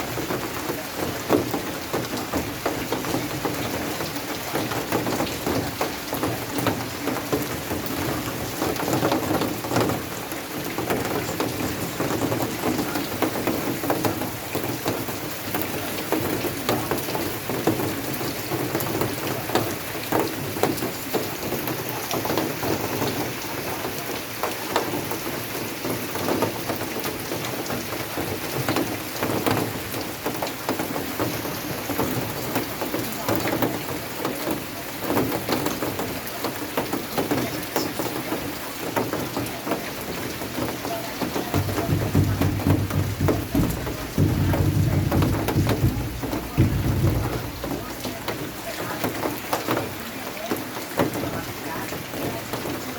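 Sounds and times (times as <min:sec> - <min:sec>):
heavy rain splashing on a surface: 0:00.0 - 0:52.9.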